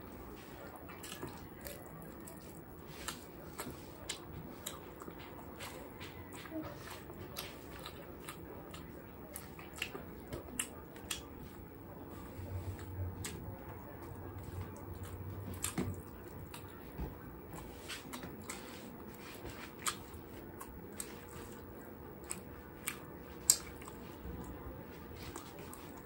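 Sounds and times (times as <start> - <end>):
chewing with wet mouth noises: 0.0 - 26.0.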